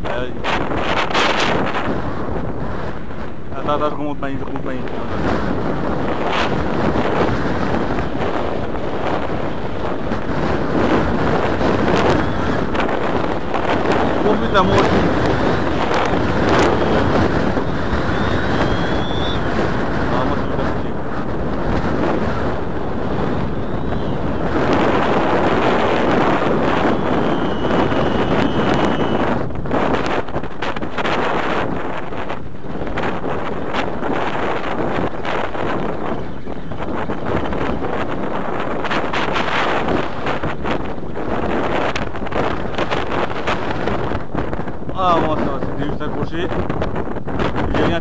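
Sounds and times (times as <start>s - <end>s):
wind buffeting microphone: 0.0s - 48.0s
sea surf: 0.3s - 45.6s.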